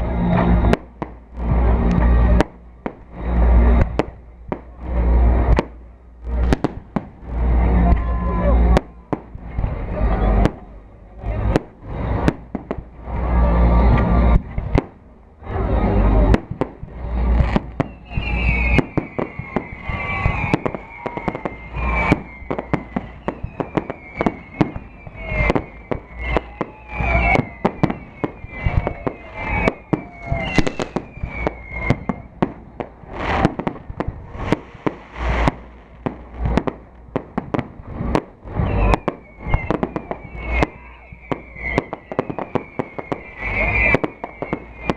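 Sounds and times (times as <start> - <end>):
falling firework whistles: 0.0 - 10.7, 11.3 - 44.9
deep booms: 0.0 - 44.9
fireworks bangs: 0.0 - 44.9.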